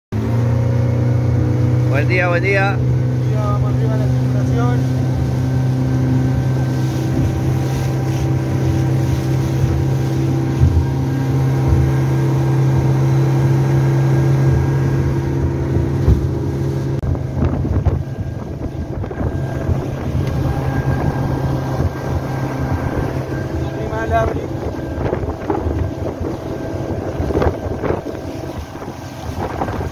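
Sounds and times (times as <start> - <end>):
outboard motor running: 0.2 - 29.9
water splashing against boat: 0.2 - 29.9
wind buffeting microphone: 4.1 - 29.9.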